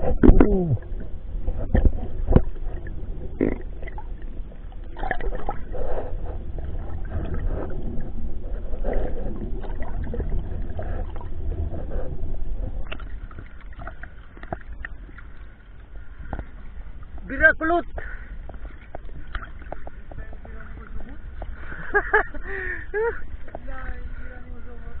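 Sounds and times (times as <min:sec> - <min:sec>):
steady low rumble: 0:00.0 - 0:25.0
water sloshing and gurgling: 0:00.0 - 0:25.0.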